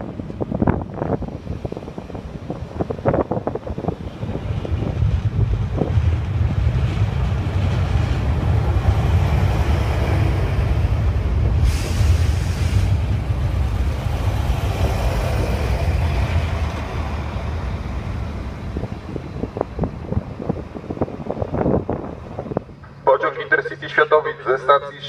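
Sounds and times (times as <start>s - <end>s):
train engine and wheels rumbling: 0.0s - 25.0s.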